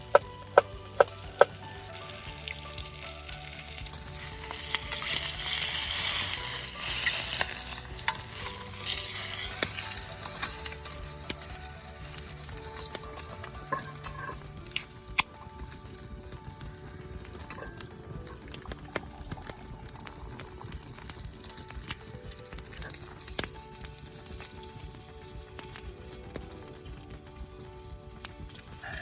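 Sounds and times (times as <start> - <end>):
campfire pops and crackles: 0.0 - 29.0
food sizzling in a pan: 0.0 - 29.0.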